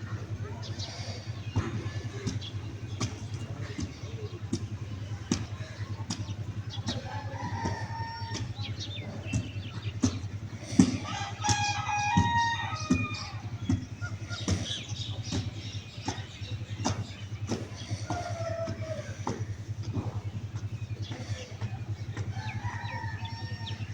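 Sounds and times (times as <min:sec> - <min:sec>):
chickens clucking: 0:00.0 - 0:23.9
low pulsing hum: 0:00.0 - 0:23.9.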